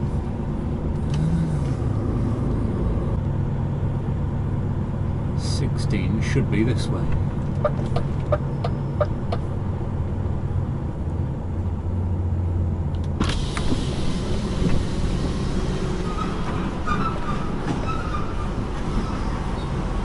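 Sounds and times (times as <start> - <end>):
lorry engine humming: 0.0 - 20.0.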